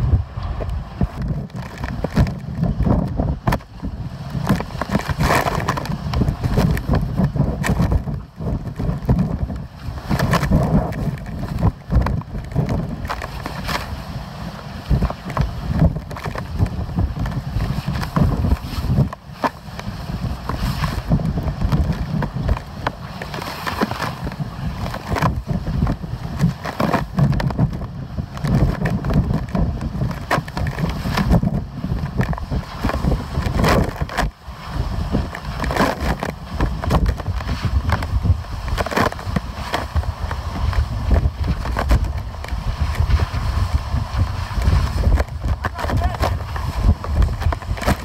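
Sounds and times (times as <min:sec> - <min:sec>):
gusty wind buffeting microphone: 0:00.0 - 0:48.0.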